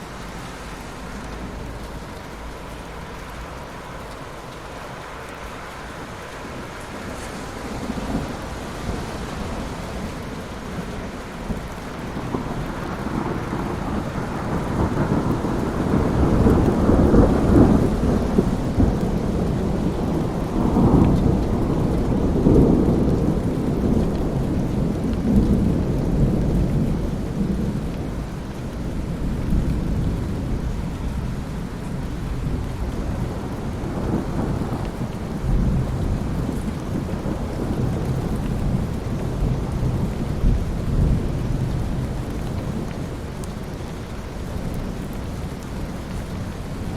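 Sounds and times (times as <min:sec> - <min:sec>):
steady rain: 0:00.0 - 0:46.9
rolling thunder: 0:06.0 - 0:43.7.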